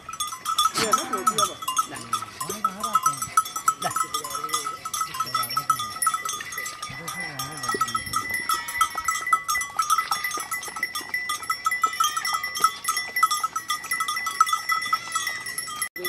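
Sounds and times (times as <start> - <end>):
animal bells ringing and clinking: 0.0 - 16.0.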